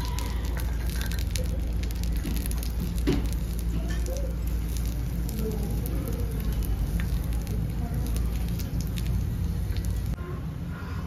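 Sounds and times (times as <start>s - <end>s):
spoon stirring in clay pot: 0.0s - 10.2s
wood fire crackling: 0.0s - 10.2s.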